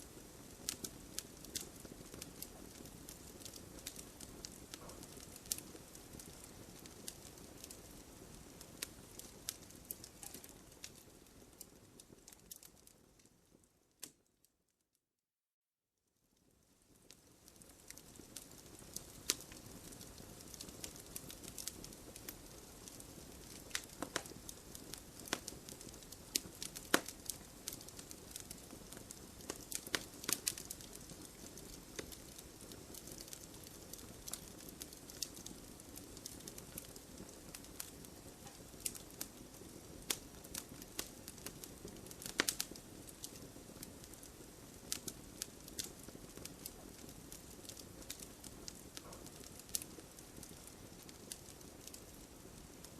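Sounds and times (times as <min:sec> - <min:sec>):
campfire crackling and popping: 0:00.0 - 0:14.2, 0:16.7 - 0:52.9.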